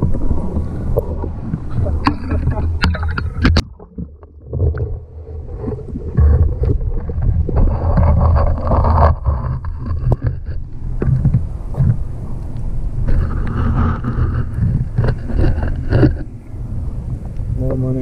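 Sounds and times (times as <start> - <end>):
wind buffeting the microphone: 0.0 - 3.8, 4.4 - 18.0.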